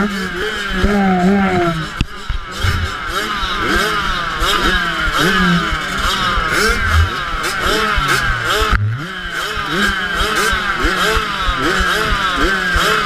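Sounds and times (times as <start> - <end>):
motocross engines revving: 0.0 - 13.0.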